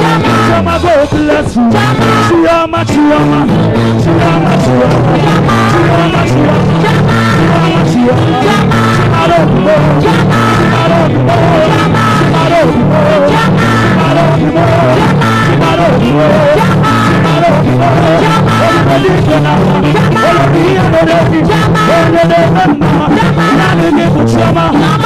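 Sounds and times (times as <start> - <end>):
drum beat: 0.0 - 25.0
repeating bass line: 0.0 - 25.0
wavering lead melody: 0.0 - 25.0.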